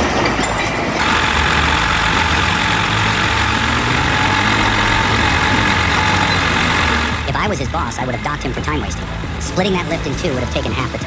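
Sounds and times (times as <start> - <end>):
heavy machine engine running: 0.0 - 11.0.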